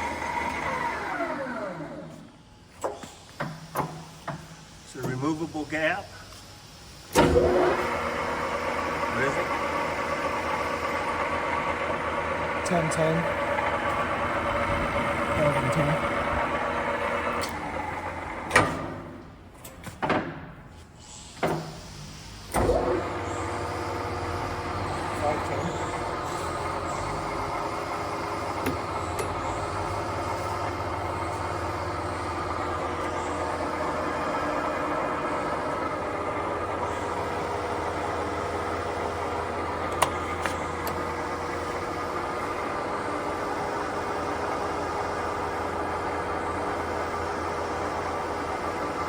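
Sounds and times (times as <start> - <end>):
lathe running: 0.0 - 2.2, 7.2 - 18.6, 22.5 - 49.0.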